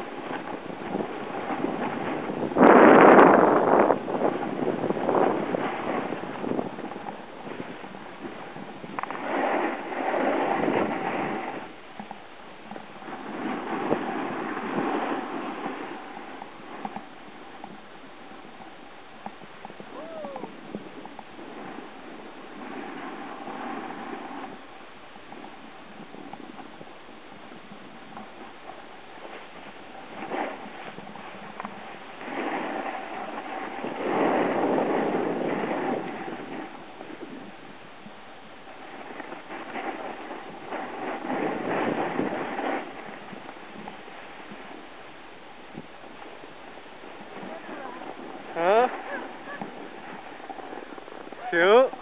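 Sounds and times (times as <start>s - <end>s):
snowboard scraping over snow: 0.0s - 52.0s.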